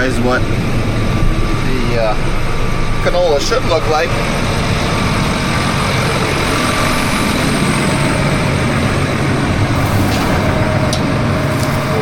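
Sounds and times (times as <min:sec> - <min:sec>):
sprayer engine humming: 0:00.0 - 0:12.0.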